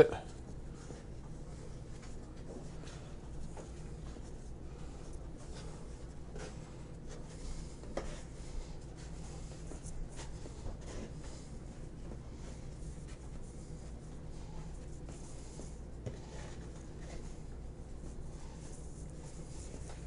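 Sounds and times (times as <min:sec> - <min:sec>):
steady low hum: 0:00.0 - 0:20.0
hands rolling dough on wood: 0:00.3 - 0:20.0.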